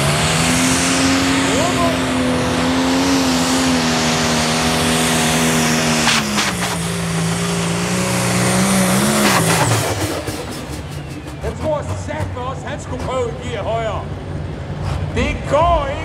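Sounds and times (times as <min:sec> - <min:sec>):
diesel tractor engine at full power: 0:00.0 - 0:16.0.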